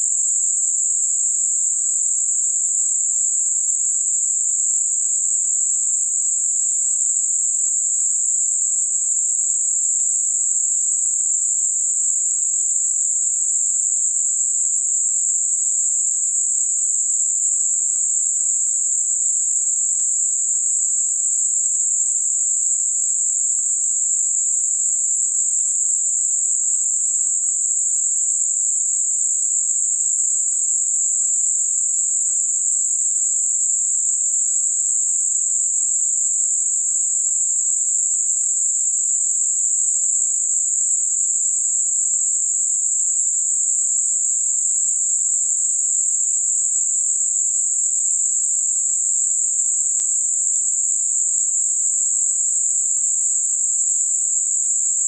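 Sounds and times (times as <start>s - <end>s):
steady high-pitched hiss: 0.0s - 55.0s.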